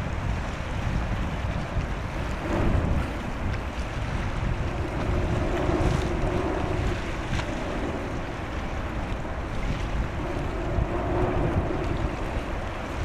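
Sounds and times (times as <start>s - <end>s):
sea water washing: 0.0s - 13.0s
wind buffeting microphone: 0.0s - 13.0s.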